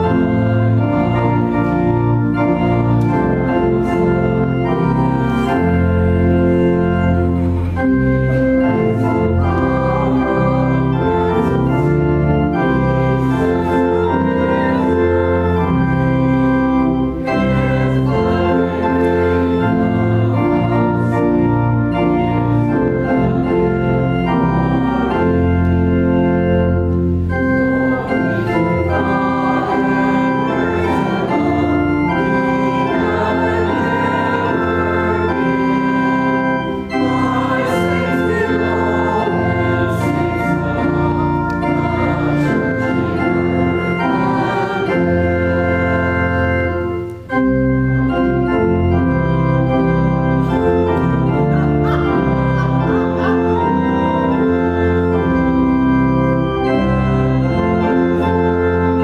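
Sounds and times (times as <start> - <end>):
organ playing sustained chords: 0.0 - 59.0.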